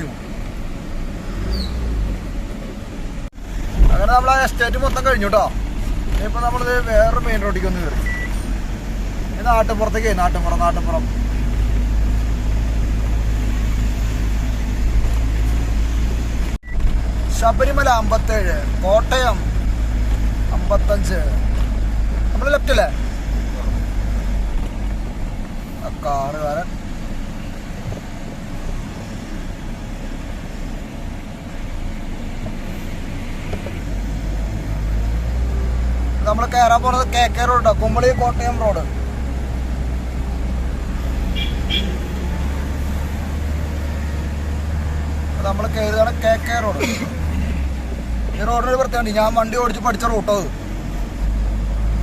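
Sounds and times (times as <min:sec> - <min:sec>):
road noise: 0:00.0 - 0:52.0
truck diesel engine rumbling: 0:00.0 - 0:52.0.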